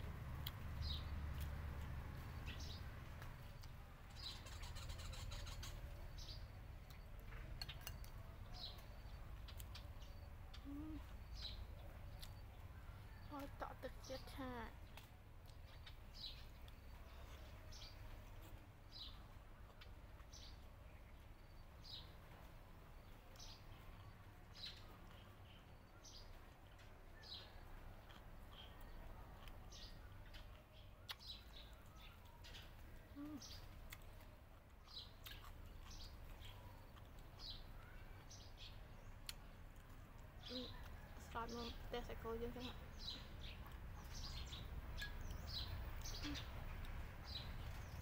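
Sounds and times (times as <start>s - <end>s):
bird chirping: 0.4s - 48.0s.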